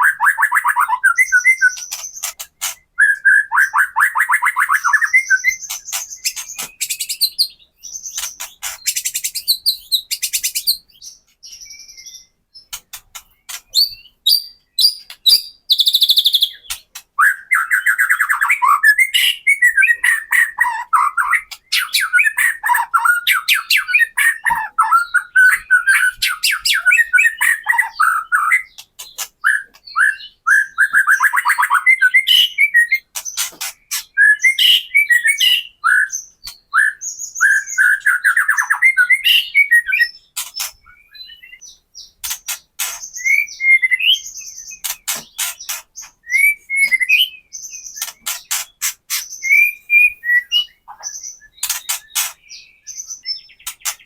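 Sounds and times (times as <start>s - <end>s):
bird singing with rattling clicks: 0.0s - 54.0s
bird whistling and trilling: 0.0s - 54.0s.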